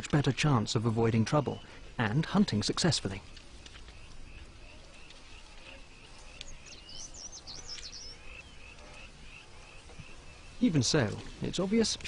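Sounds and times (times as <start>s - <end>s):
bird singing sweeping notes: 1.2s - 11.8s.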